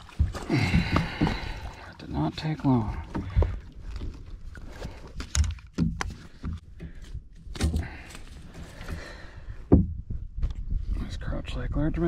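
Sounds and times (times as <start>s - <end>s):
knocks and clatters in kayak: 0.0s - 10.6s.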